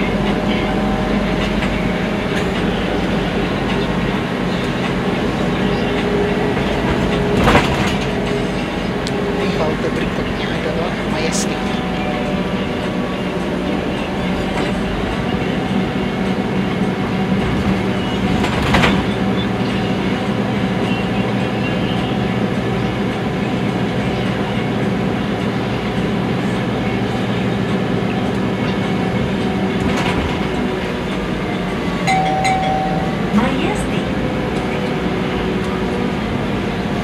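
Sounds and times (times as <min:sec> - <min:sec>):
bus engine drone: 0:00.0 - 0:37.0
road rumble: 0:00.0 - 0:37.0.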